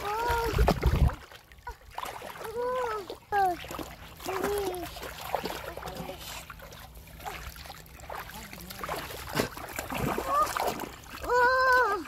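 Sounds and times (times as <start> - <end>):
feet wading through muddy water: 0.0 - 12.0.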